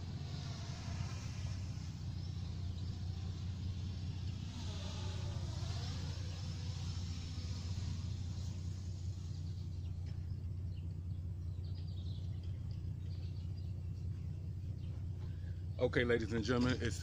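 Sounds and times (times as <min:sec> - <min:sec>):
low outdoor rumble: 0:00.0 - 0:17.0
faint bird chirps: 0:00.3 - 0:16.0.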